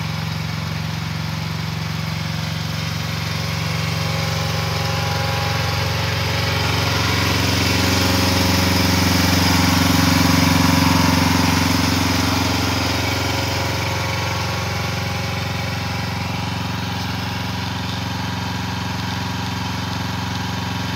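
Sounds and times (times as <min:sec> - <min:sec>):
excavator engine idling: 0:00.0 - 0:20.9.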